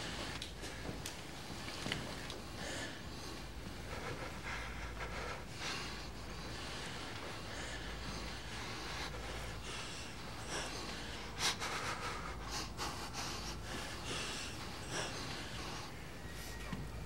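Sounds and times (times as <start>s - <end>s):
man breathing heavily: 0.0s - 16.4s
low steady hum: 0.0s - 17.0s.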